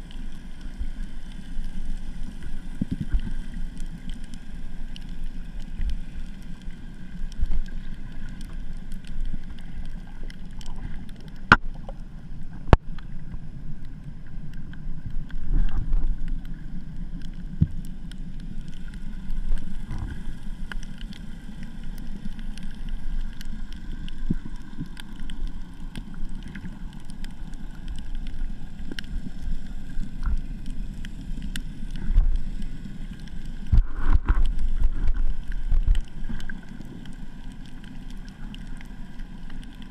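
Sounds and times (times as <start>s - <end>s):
muffled underwater water rumble: 0.0s - 39.9s.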